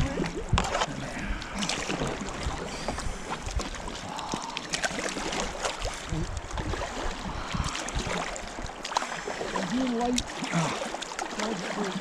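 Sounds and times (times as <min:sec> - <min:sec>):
paddle splashes: 0:00.0 - 0:12.0
river current rushing: 0:00.0 - 0:12.0.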